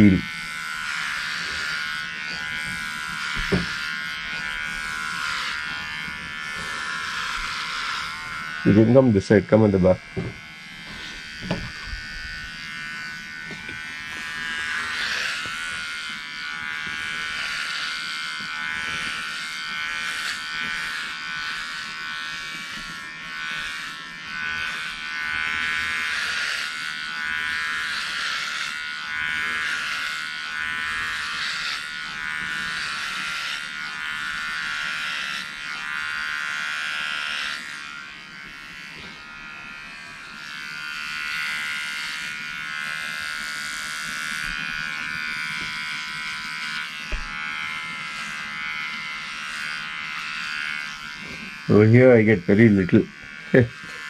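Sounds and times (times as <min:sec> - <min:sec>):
electric hair trimmer buzzing: 0:00.0 - 0:54.0.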